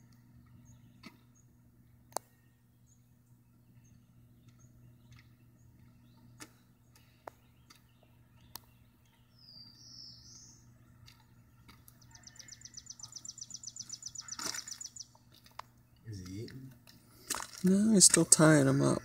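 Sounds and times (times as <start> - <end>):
bird chirp: 0.0 - 19.0
faint low hum: 0.0 - 19.0.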